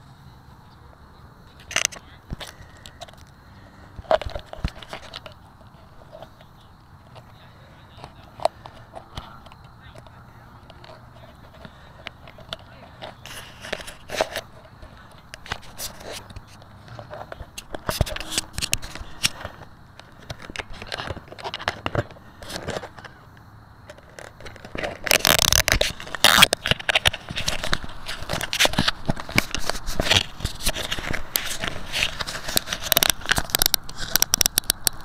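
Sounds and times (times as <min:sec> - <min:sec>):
crackling and rattling on microphone: 0:01.0 - 0:35.0.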